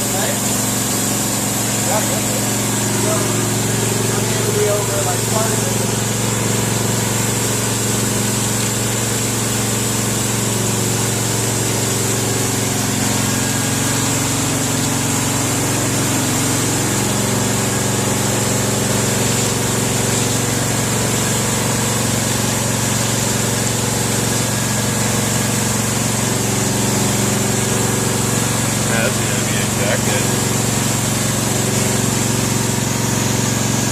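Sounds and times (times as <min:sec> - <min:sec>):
motor hum with high whine: 0:00.0 - 0:33.9.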